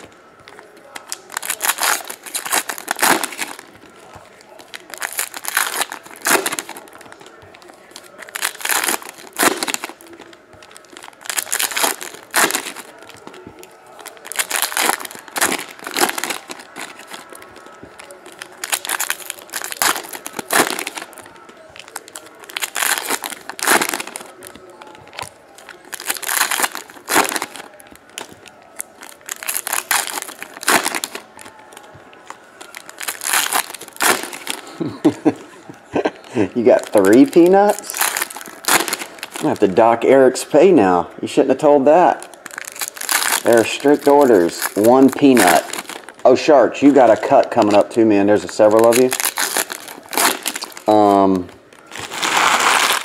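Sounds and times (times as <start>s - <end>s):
foil wrappers torn and crinkled: 0.4s - 35.4s, 36.0s - 39.8s, 42.2s - 46.2s, 46.8s - 53.0s.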